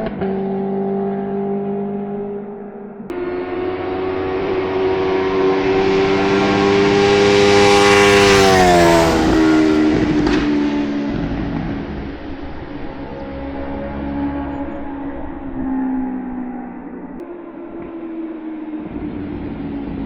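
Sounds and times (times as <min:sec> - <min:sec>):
motorcycle passing by: 0:00.0 - 0:20.0.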